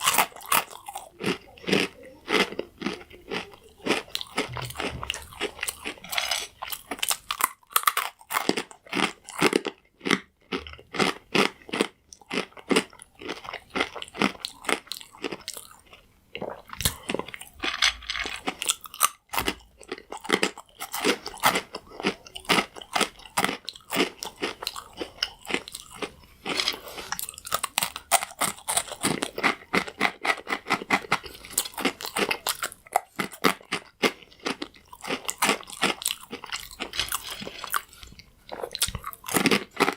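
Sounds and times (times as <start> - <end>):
croutons being chewed: 0.0 - 39.9.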